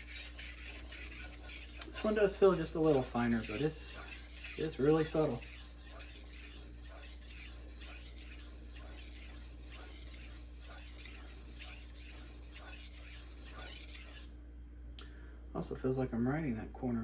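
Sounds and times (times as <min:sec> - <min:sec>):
knife scraping on whetstone: 0:00.0 - 0:14.3.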